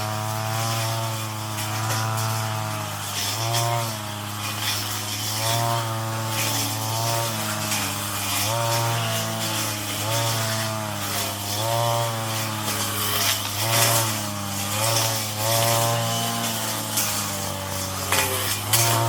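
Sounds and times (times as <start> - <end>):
brush cutter engine running: 0.0 - 19.0
hiss of cutting weeds: 0.0 - 19.0.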